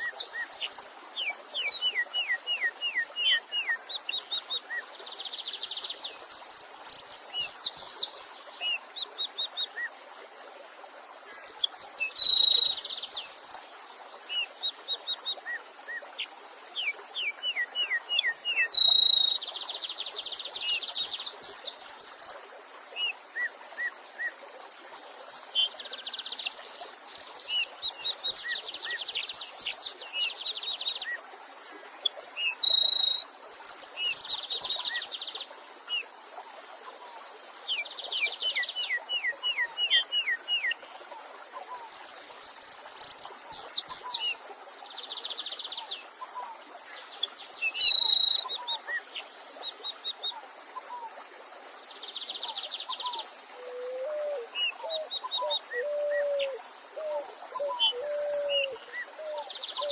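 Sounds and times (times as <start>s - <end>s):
songbirds chirping: 0.0s - 10.0s, 10.7s - 59.9s
faint stream murmur: 0.0s - 59.9s.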